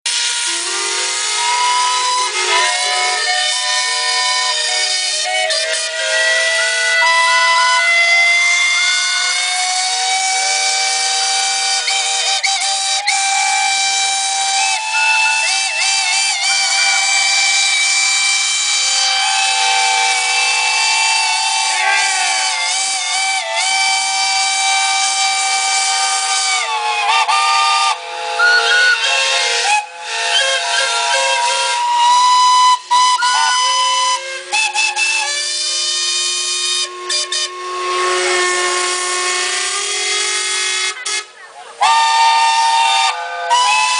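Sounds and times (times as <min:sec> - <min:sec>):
steam hissing: 0:00.1 - 0:43.9
steam whistles blowing: 0:00.1 - 0:43.9.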